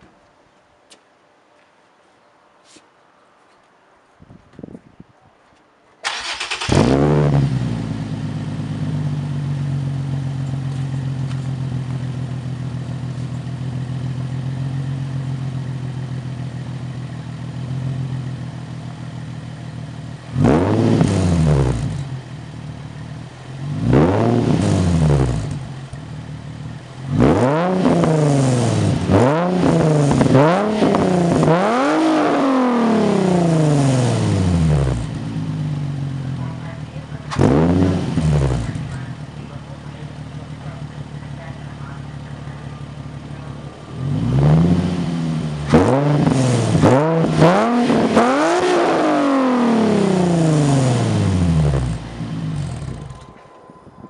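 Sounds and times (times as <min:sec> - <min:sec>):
car engine idling and revving: 0:06.1 - 0:54.0.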